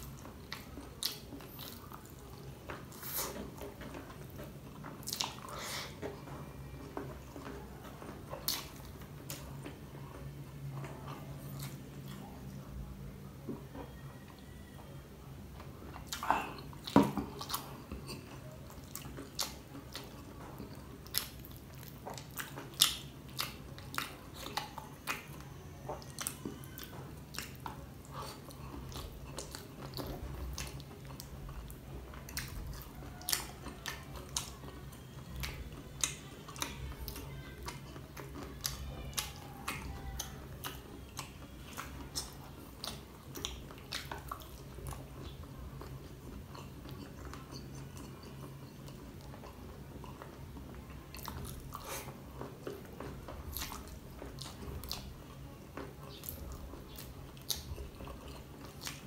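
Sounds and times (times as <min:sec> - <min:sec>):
chewing with mouth clicks and smacks: 0:00.0 - 0:14.8, 0:15.5 - 0:59.0.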